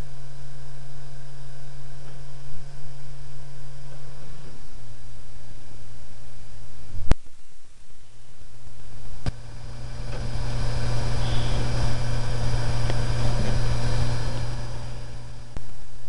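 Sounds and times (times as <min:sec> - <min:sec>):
computer fan and drive whir: 0:00.0 - 0:16.0
low hum: 0:00.0 - 0:16.0.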